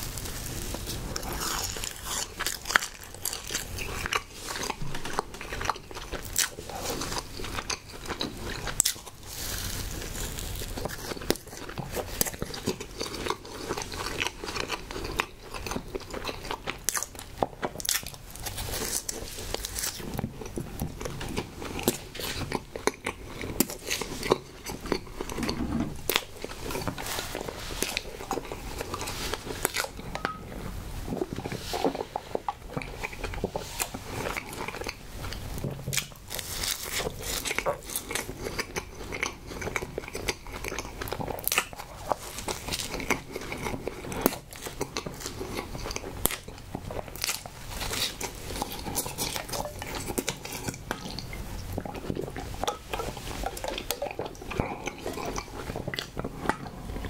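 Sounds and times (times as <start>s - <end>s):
chewing soft cake: 0.0s - 57.0s.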